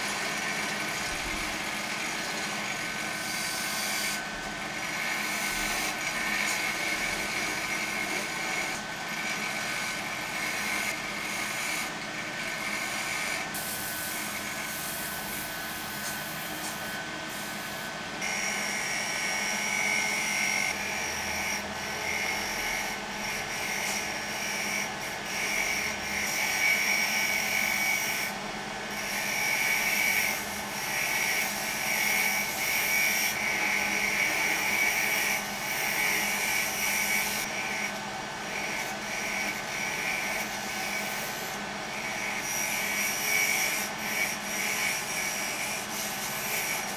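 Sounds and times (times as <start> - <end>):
chisel scraping spinning wood: 0.0 - 28.3, 29.0 - 46.9
wood lathe motor whine: 0.0 - 46.9.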